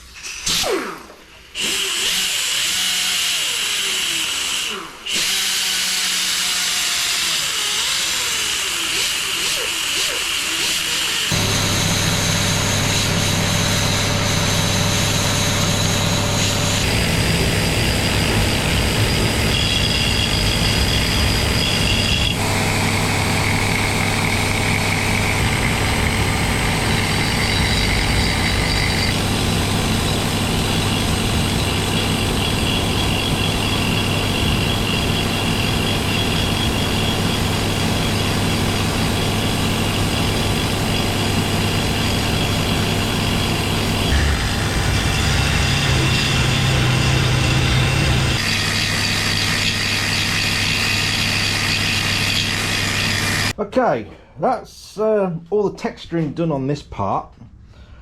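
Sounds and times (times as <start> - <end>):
rotary tool whining on metal: 1.6 - 53.6.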